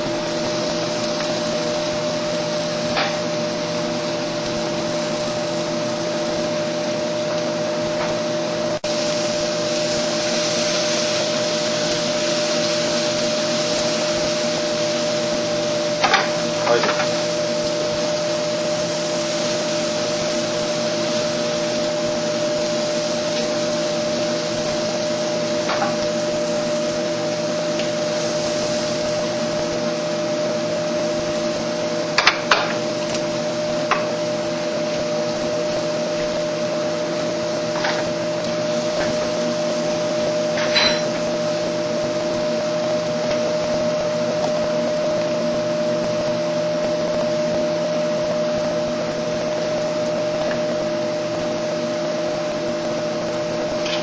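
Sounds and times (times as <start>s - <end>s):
motor whirring with low hum: 0.0s - 54.0s.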